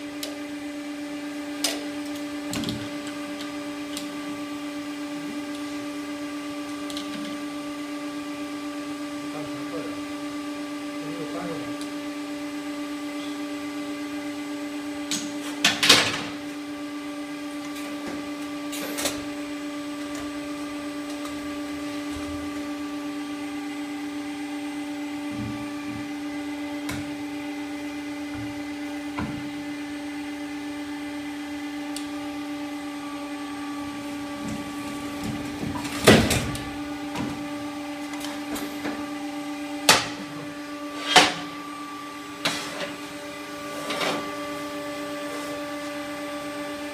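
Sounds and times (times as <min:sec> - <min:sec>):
hydraulic machine hum: 0:00.0 - 0:46.9.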